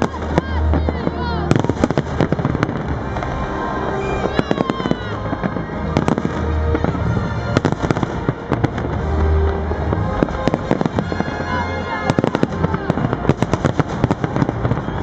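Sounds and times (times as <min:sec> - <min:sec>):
fireworks bursting with sharp bangs: 0:00.0 - 0:15.0
music with deep bass: 0:00.0 - 0:15.0.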